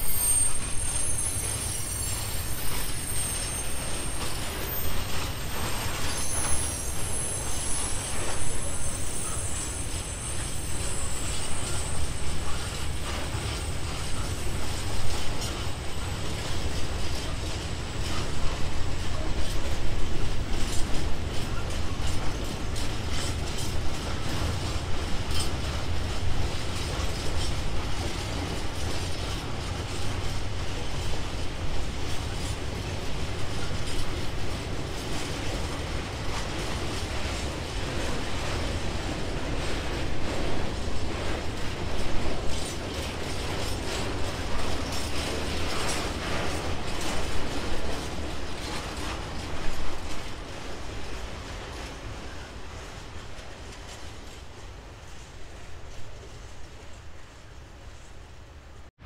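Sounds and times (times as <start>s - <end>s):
train wheels rumbling: 0.0s - 59.0s
wagons clanking and rattling: 3.5s - 52.2s.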